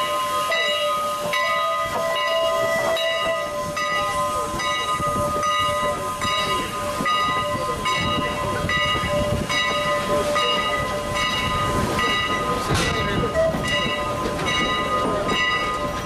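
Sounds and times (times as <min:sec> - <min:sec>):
locomotive bell ringing: 0:00.0 - 0:16.0
steam locomotive rumble and hiss: 0:00.0 - 0:16.0.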